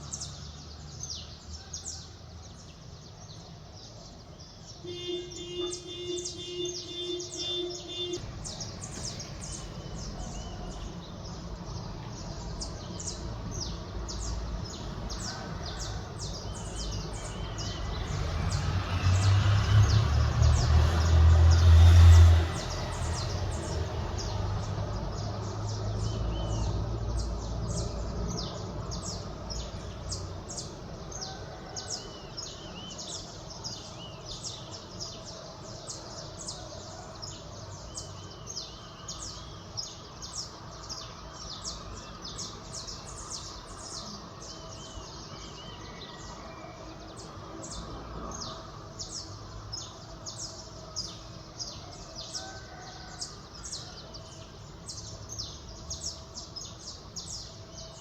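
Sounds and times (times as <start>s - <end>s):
low traffic rumble: 0.0s - 58.0s
songbirds chirping: 0.0s - 58.0s.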